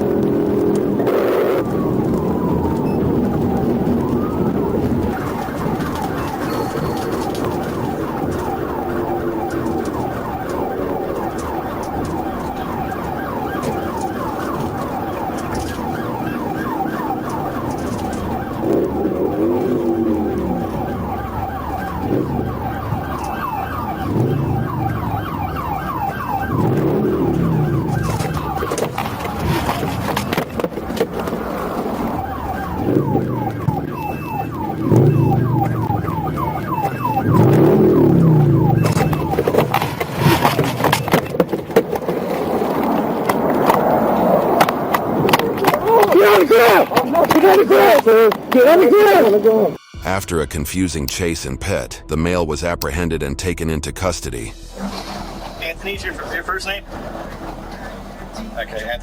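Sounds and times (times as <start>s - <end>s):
low sound rising and falling: 0.0s - 39.7s, 49.3s - 59.0s
police siren yelping: 0.0s - 50.0s.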